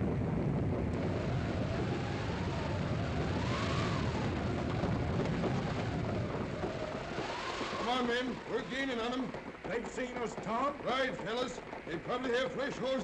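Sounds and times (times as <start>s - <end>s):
galloping hoofbeats clatter: 0.0s - 13.0s.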